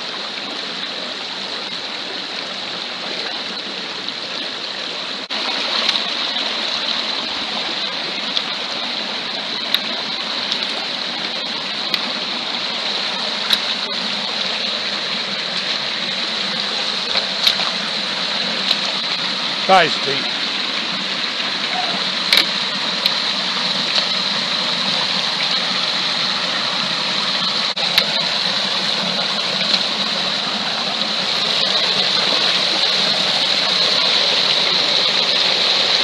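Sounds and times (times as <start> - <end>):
small waterfalls pouring: 0.0 - 36.0
stream rushing over stones: 0.0 - 36.0.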